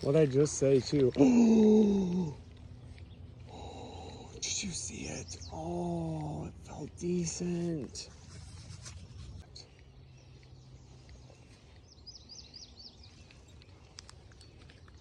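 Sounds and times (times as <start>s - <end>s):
bird chirping: 0.0s - 8.0s, 8.8s - 15.0s
faint outdoor ambience: 0.0s - 15.0s.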